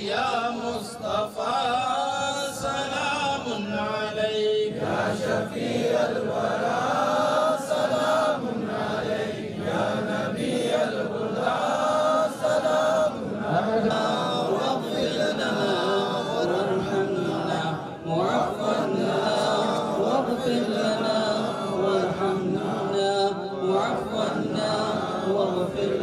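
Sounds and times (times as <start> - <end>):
men chanting devotional recitation: 0.0 - 26.0.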